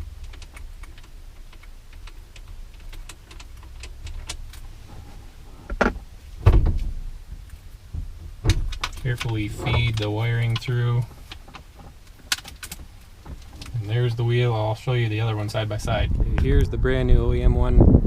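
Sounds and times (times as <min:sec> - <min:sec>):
steering wheel clicking and rattling: 0:00.0 - 0:15.7.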